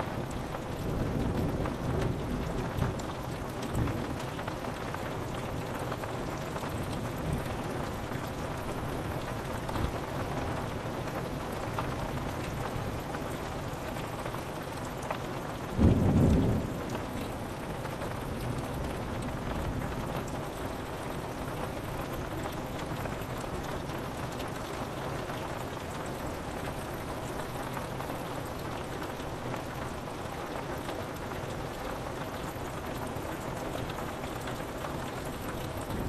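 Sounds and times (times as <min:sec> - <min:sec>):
rain pattering on window glass: 0:00.0 - 0:36.0.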